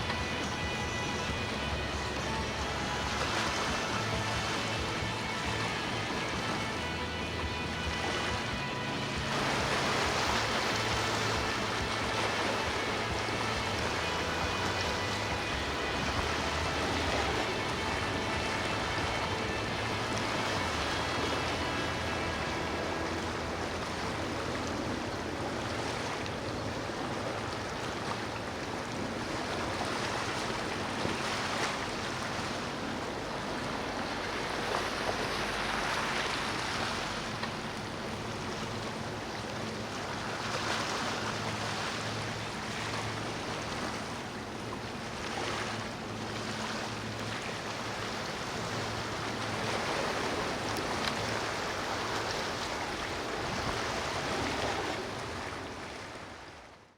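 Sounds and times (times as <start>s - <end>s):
boat engine drone: 0.0s - 56.9s
rough water washing: 0.0s - 56.9s.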